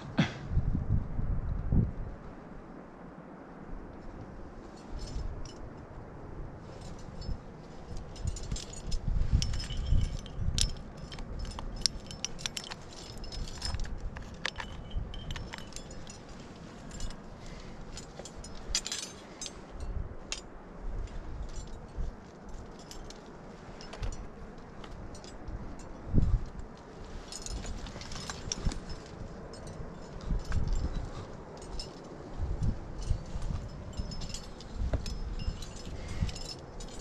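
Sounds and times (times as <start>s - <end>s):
wind rumbling on microphone: 0.0s - 37.0s
metal climbing gear clinking: 3.9s - 37.0s.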